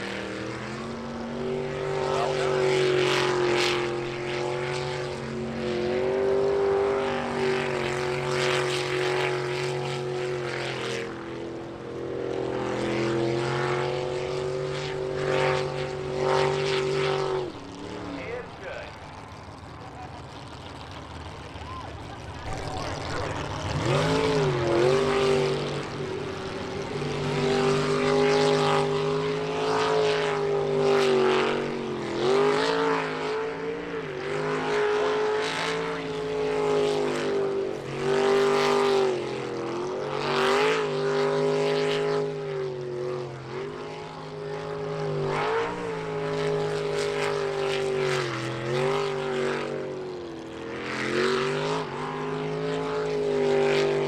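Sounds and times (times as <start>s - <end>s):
boat engine at full throttle: 0.0s - 54.0s.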